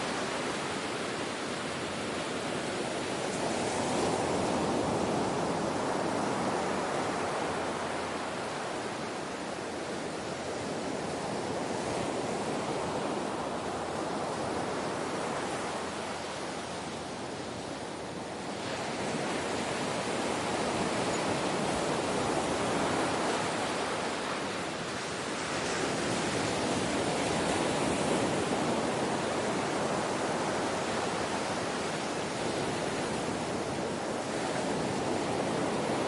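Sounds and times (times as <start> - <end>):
ocean waves washing on shore: 0.0 - 36.0.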